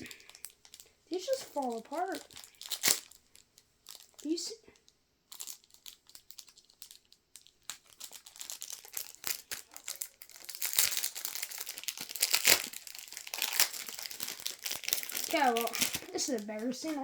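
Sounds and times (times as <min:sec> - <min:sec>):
foil wrapper crinkling and tearing: 0:00.0 - 0:17.0.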